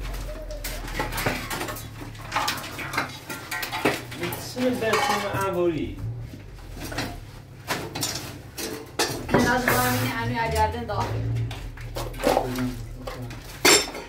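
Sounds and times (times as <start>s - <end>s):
scrap metal clattering: 0.0s - 14.0s.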